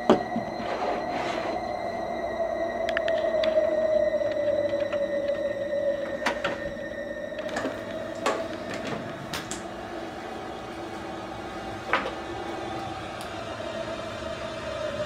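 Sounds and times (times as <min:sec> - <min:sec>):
humming drone: 0:00.0 - 0:15.0.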